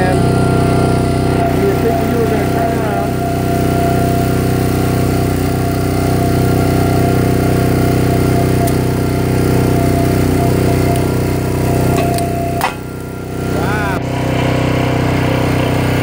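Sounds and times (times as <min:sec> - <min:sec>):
high whine: 0:00.0 - 0:16.0
small gasoline engine running: 0:00.0 - 0:16.0.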